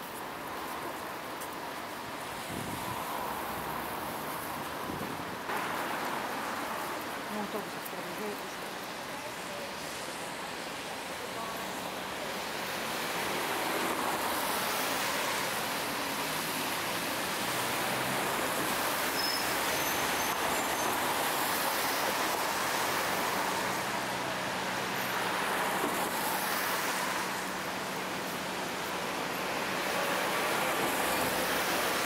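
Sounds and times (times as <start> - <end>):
road traffic: 0.0 - 32.0.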